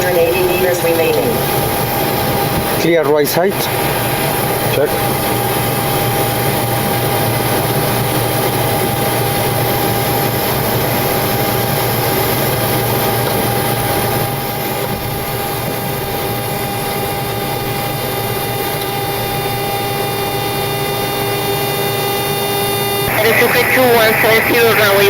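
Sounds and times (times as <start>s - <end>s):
jet engines idling hum and whine: 0.0s - 25.0s.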